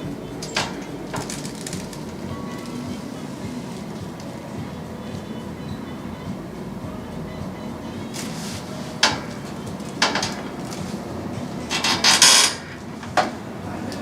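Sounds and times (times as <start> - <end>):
treatment table knocking and creaking: 0.0 - 5.3, 7.4 - 14.0.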